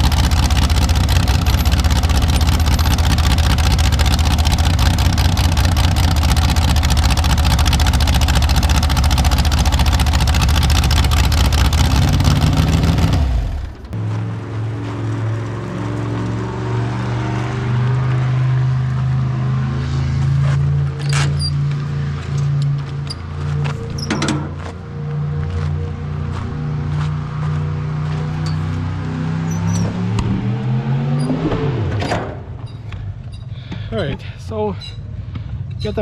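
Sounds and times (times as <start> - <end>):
tractor engine at full throttle: 0.0 - 29.2.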